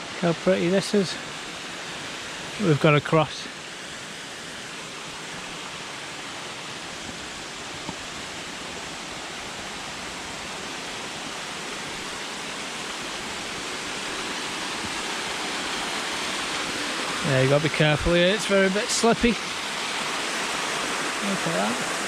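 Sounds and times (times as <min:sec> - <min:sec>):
stream running water: 0:00.0 - 0:22.0.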